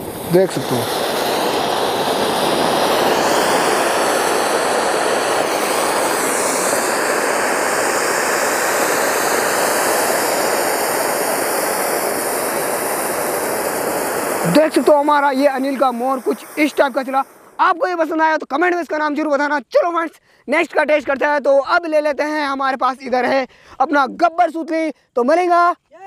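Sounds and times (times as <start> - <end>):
firework fountain hissing: 0.0 - 25.0.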